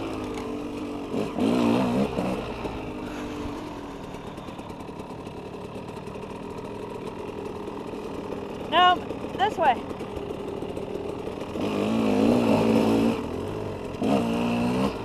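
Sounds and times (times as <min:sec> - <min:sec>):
dirt bike engine revving and idling: 0:00.0 - 0:15.0.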